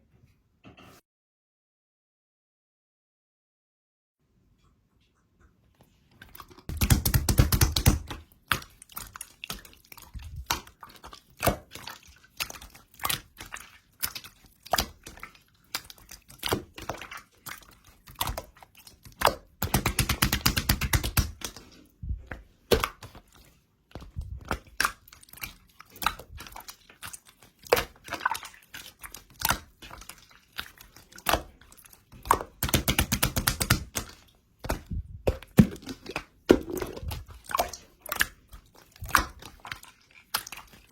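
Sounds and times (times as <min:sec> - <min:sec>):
hands squishing slime: 0:05.9 - 0:40.9.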